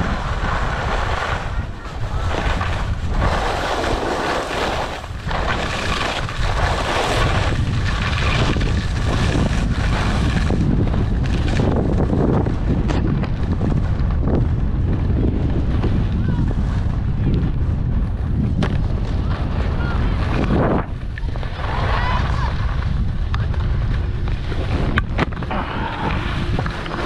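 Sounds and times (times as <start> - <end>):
skis scraping on snow: 0.0 - 27.0
wind buffeting microphone: 0.0 - 27.0.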